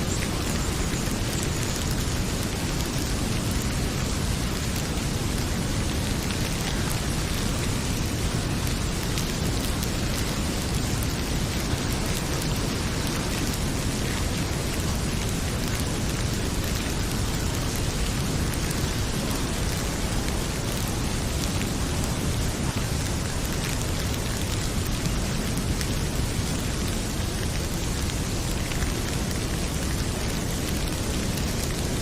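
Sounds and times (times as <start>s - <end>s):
fireplace fire crackling: 0.0s - 32.0s
heavy rain pouring: 0.0s - 32.0s.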